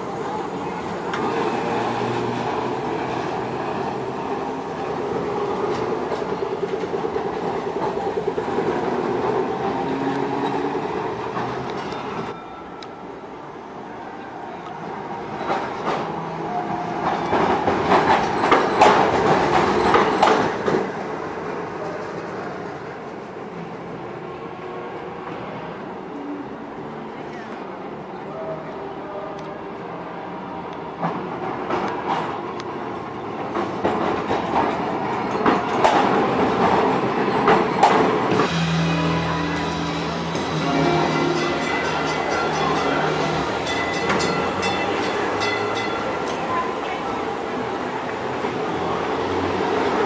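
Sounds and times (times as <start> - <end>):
wheels clacking on rails: 0.0 - 12.9, 15.1 - 23.7, 30.8 - 50.0
streetcar rolling past: 0.0 - 50.0.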